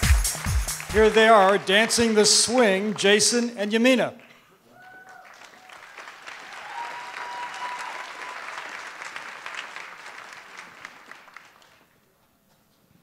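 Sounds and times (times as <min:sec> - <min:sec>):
audience applauding: 0:00.0 - 0:03.4, 0:04.8 - 0:12.0.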